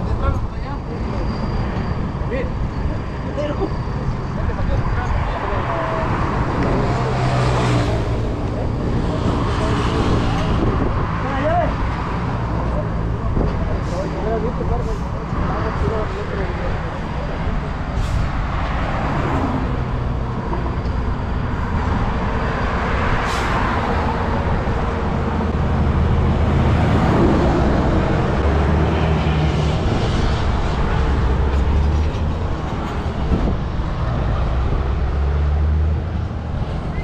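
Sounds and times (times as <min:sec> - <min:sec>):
diesel truck engines rumbling: 0:00.0 - 0:37.0
highway noise: 0:00.0 - 0:37.0.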